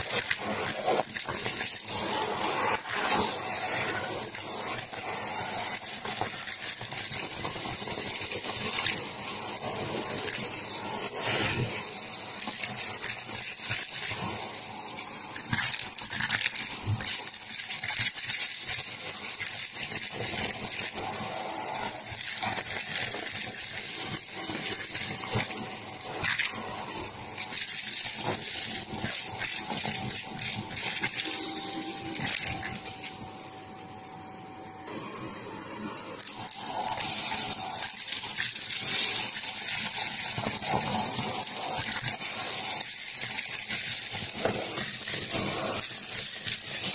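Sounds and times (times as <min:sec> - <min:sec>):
debris rattling in vacuum wand: 0:00.0 - 0:33.3, 0:36.2 - 0:46.9
vacuum cleaner air rush: 0:00.0 - 0:46.9.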